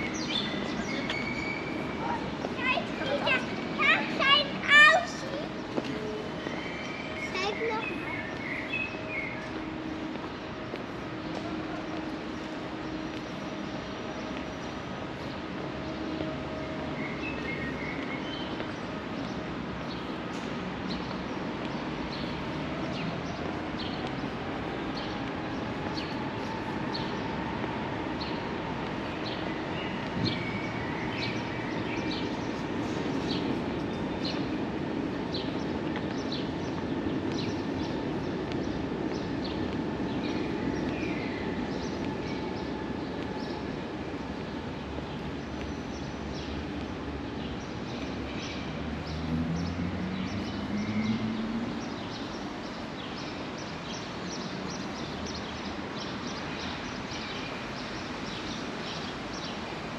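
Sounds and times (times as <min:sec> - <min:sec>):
footsteps on pavement: 0:00.0 - 0:59.7
train rumbling past: 0:00.0 - 0:59.9.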